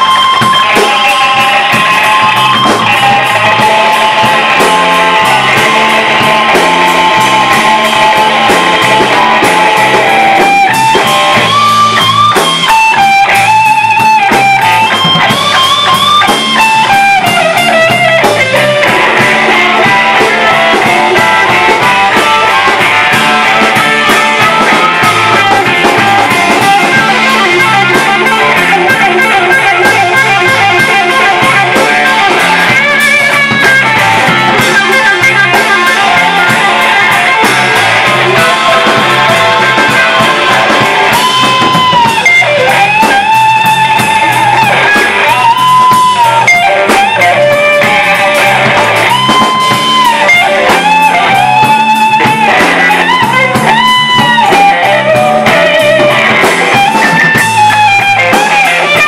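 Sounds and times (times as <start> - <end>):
blues band playing: 0.0 - 59.0
electric guitar bent notes: 0.0 - 59.0.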